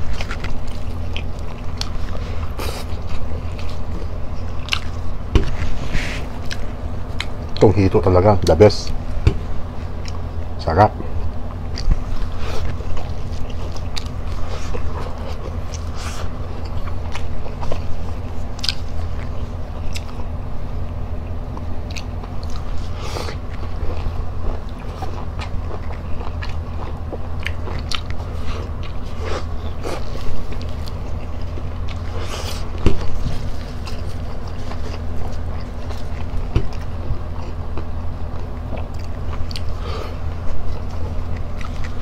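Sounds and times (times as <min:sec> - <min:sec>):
low hum: 0:00.0 - 0:42.0
person chewing food: 0:00.0 - 0:42.0.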